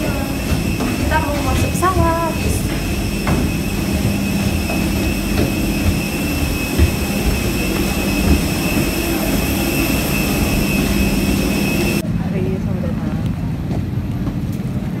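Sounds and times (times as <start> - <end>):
jet engine high whine: 0.0 - 15.0
jet engine low rumble: 0.0 - 15.0.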